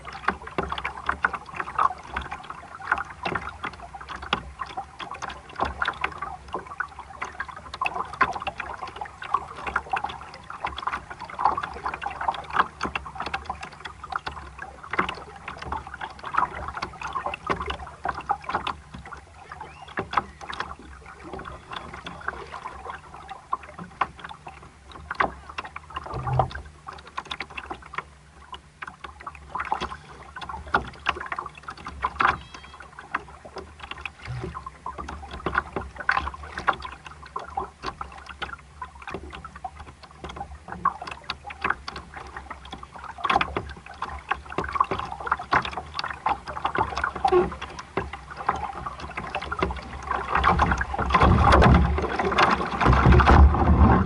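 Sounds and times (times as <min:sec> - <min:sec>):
low steady rumble: 0:00.0 - 0:54.0
water splashing against hull: 0:00.0 - 0:54.0.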